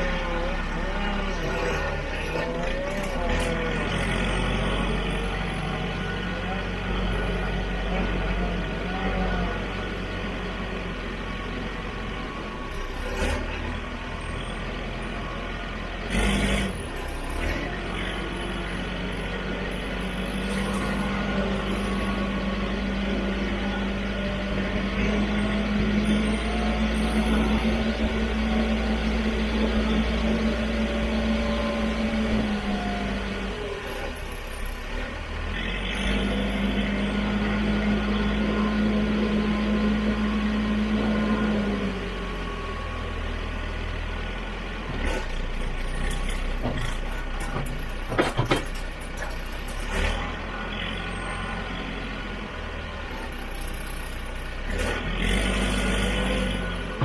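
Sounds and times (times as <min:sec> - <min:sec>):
tractor engine droning: 0:00.0 - 0:57.0.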